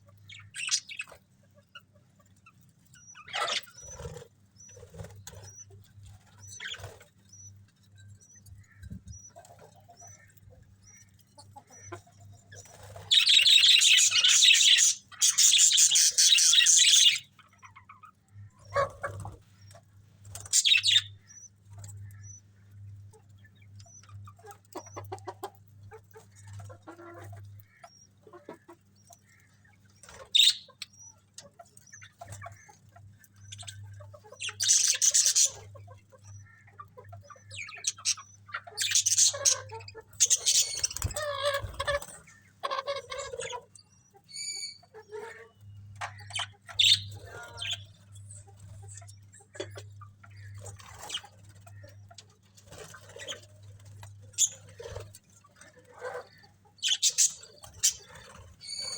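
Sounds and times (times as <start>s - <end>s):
budgerigars chirping and chattering: 0.0s - 58.9s.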